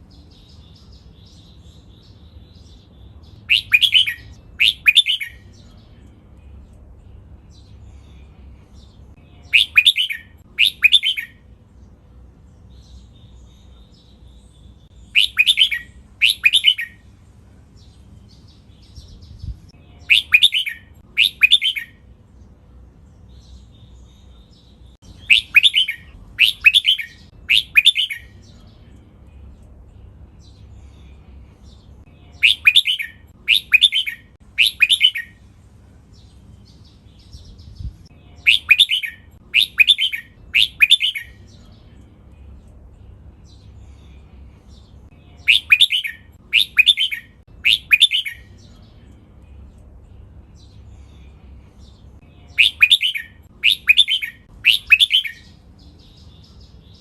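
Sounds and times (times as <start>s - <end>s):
bird singing short phrases: 0.0s - 6.6s, 7.5s - 11.5s, 12.6s - 17.1s, 17.8s - 22.1s, 23.2s - 35.4s, 36.1s - 57.0s.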